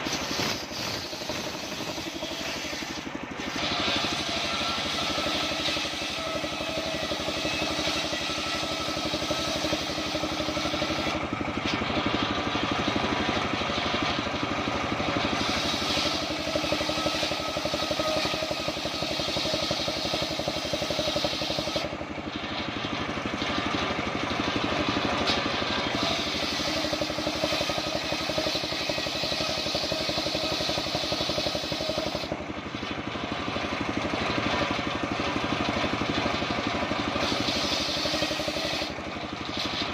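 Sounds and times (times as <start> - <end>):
engine-driven circular saw cutting wood: 0.0 - 39.9.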